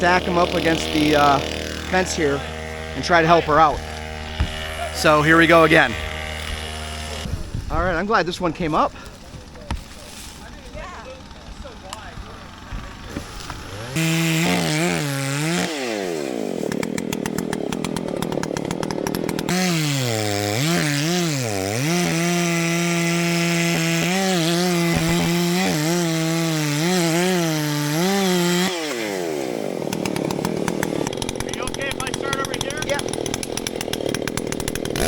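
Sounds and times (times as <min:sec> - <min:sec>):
chainsaw cutting a tree: 0:00.0 - 0:07.8, 0:08.6 - 0:35.0.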